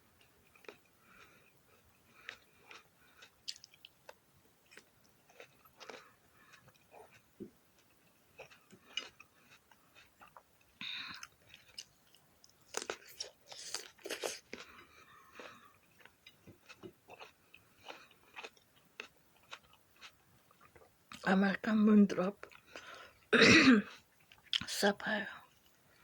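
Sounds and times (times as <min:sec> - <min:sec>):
chewing crisp grapes: 0:00.2 - 0:21.4, 0:22.3 - 0:23.3.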